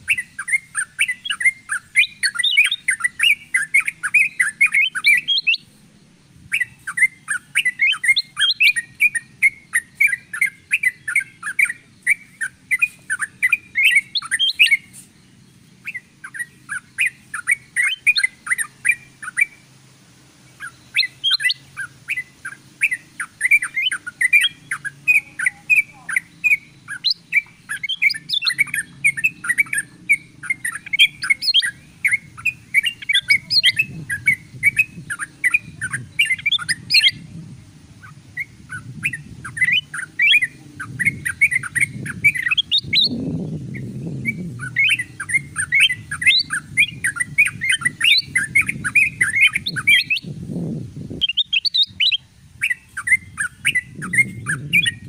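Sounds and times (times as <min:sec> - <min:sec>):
bulbuls chirping: 0:00.0 - 0:55.0.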